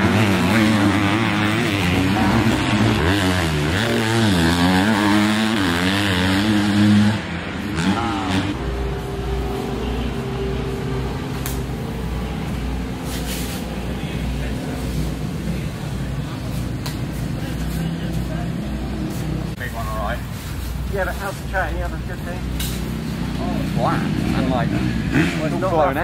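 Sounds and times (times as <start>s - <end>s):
dirt bike engine revving: 0.0s - 19.6s, 21.5s - 26.0s.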